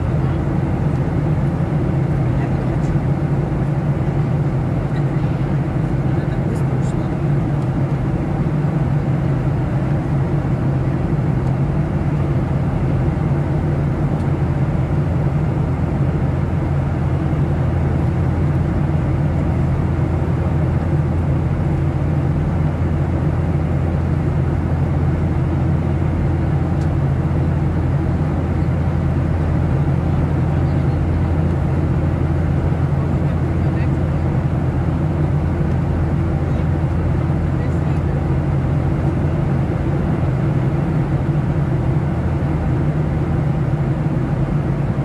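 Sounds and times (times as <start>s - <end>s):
airplane cabin engine drone: 0.0s - 45.0s.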